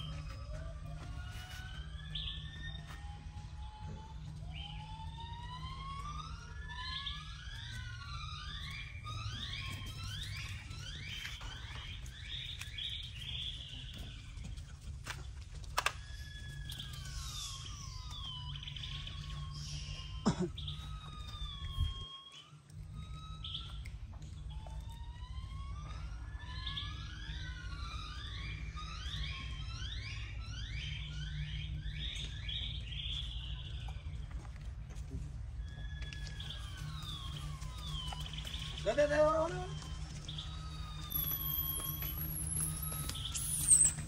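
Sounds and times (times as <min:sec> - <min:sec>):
high whistling animal calls: 0:00.0 - 0:34.5, 0:35.2 - 0:44.0.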